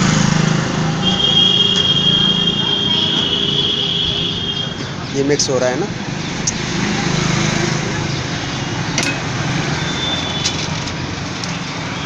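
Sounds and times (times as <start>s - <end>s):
passing motor vehicles hum: 0.0s - 12.0s.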